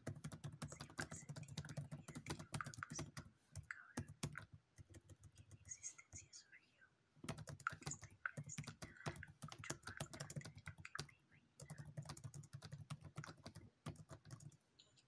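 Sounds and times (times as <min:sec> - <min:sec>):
typing on a laptop keyboard: 0:00.0 - 0:05.8, 0:07.2 - 0:14.6.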